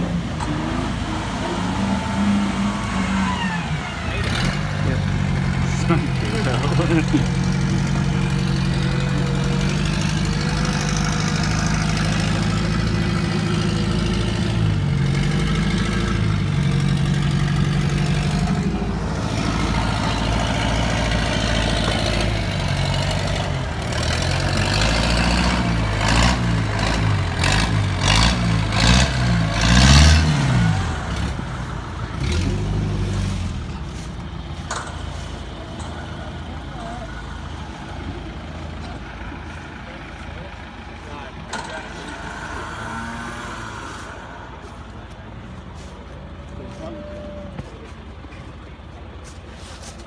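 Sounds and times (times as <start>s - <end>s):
engine running and revving: 0.0s - 48.5s.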